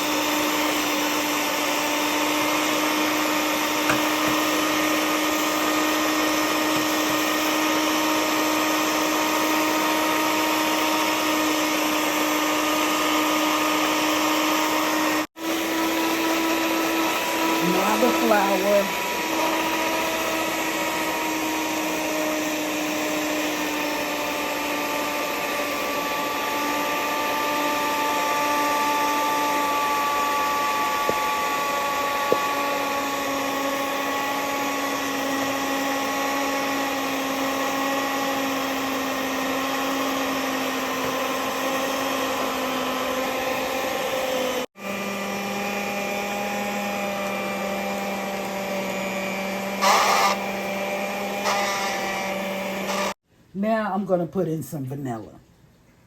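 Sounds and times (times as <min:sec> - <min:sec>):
electric mixer motor whine: 0:00.0 - 0:53.2.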